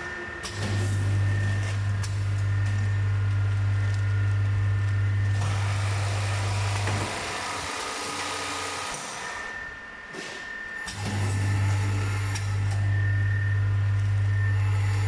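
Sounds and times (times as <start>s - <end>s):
machine electrical hum: 0.0s - 15.0s.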